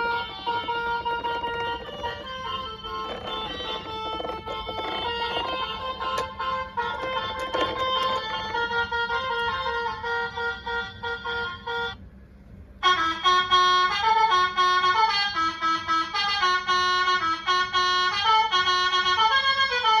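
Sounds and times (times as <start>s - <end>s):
bus horn playing a melody: 0.0s - 12.0s, 12.7s - 20.0s.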